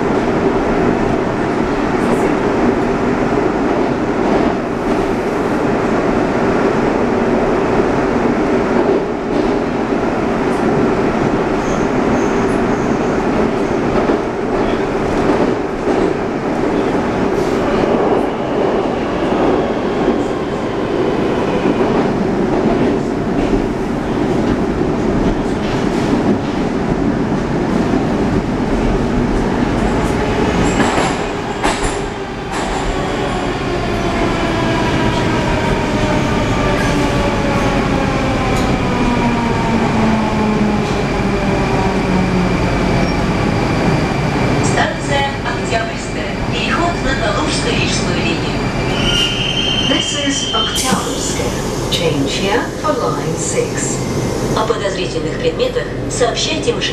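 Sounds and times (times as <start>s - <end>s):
rumble of wheels on rail: 0.0s - 56.9s.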